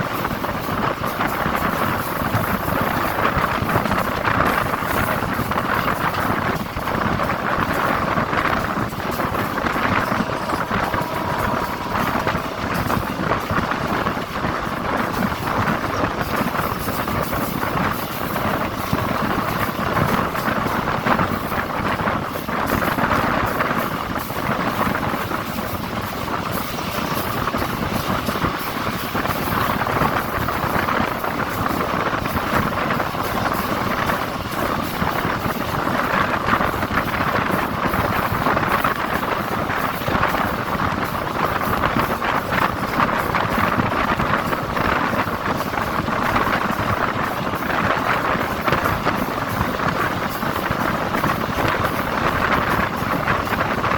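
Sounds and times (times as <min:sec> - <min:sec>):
passenger train rumbling: 0:00.0 - 0:53.9.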